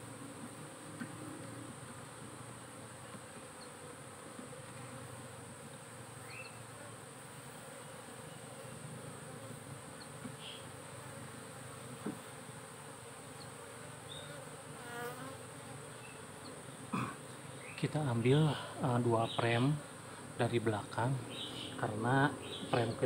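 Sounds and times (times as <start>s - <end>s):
bee colony buzzing: 0.0s - 23.0s.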